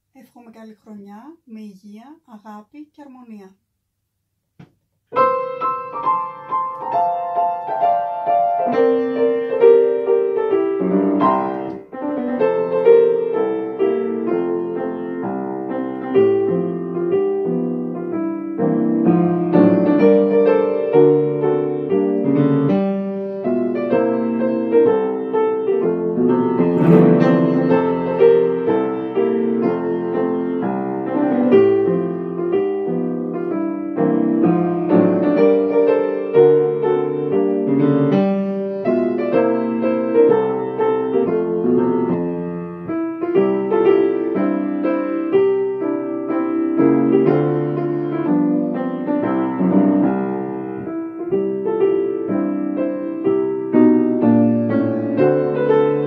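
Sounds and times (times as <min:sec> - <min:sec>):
solo piano playing: 0:05.1 - 0:56.0.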